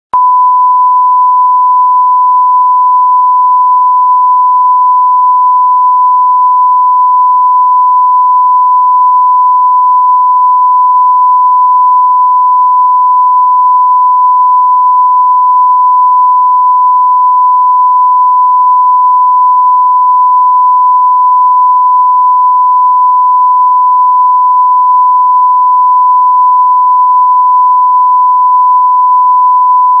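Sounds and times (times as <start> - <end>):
steady sine-wave tone: 0.2 - 30.0.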